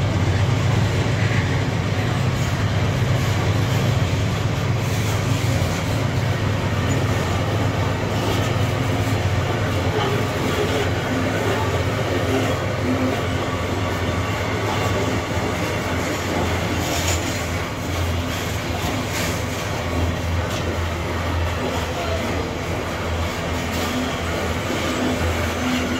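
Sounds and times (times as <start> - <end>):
freight train wheels rumbling: 0.0 - 25.9
clack at rail joints: 1.0 - 25.9.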